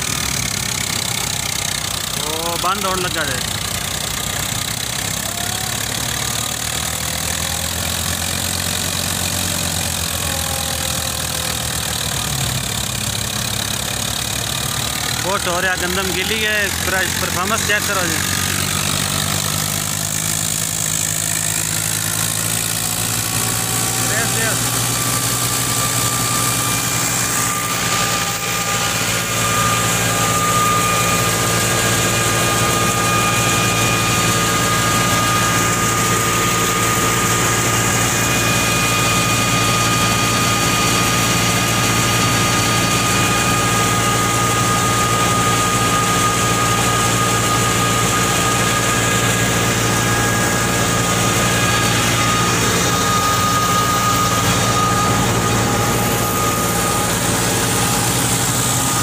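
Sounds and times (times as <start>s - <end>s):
tractor engine and thresher drone: 0.0s - 59.0s.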